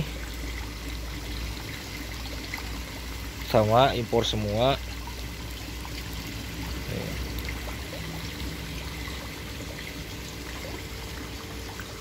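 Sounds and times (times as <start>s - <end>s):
water pouring into a pond: 0.0s - 12.0s.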